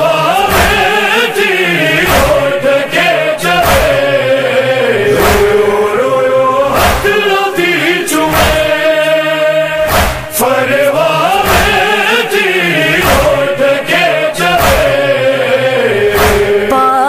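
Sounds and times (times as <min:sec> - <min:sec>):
chest-beating thumps: 0:00.0 - 0:01.1, 0:01.8 - 0:05.9, 0:06.7 - 0:09.0, 0:09.8 - 0:12.1, 0:12.7 - 0:16.7
backing chorus: 0:00.0 - 0:16.9
person chanting a lament: 0:00.0 - 0:17.0.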